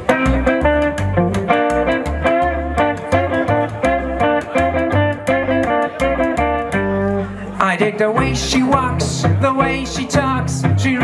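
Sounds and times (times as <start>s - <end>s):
steady drum beat: 0.0s - 7.1s, 8.2s - 11.0s
bass notes: 0.0s - 11.0s
guitar: 0.0s - 11.0s.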